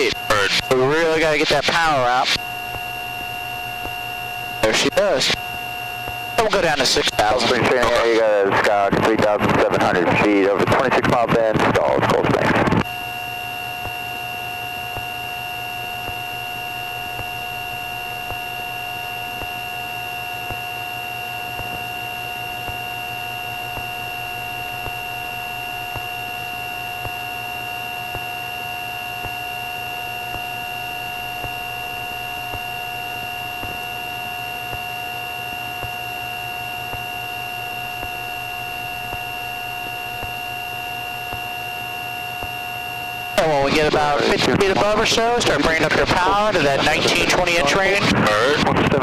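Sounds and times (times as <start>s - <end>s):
steady high-pitched tones: 0.0s - 48.7s
airplane engines droning in cockpit: 0.0s - 49.0s.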